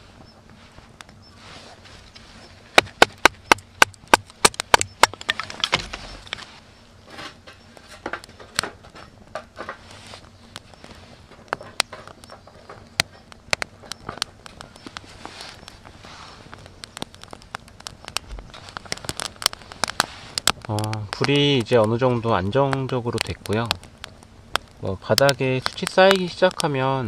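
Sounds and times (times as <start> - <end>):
sticks cracking: 2.7 - 6.5, 7.9 - 26.7.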